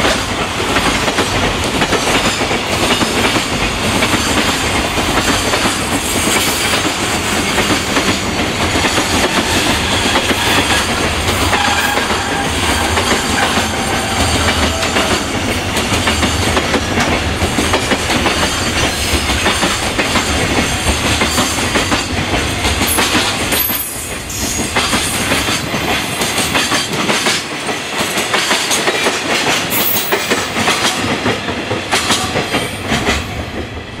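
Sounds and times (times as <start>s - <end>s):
train wheels clattering over joints: 0.0s - 33.7s.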